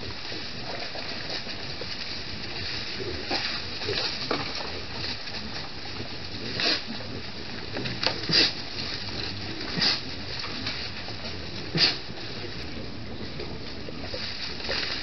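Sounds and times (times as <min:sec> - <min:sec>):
peccaries foraging in leaf litter: 0:00.0 - 0:15.0
steady hiss: 0:00.0 - 0:15.0.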